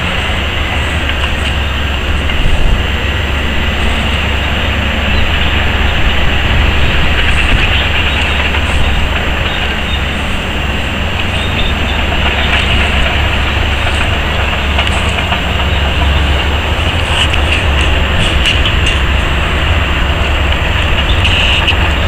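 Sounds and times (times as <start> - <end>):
heavy diesel engines rumbling: 0.0 - 22.0.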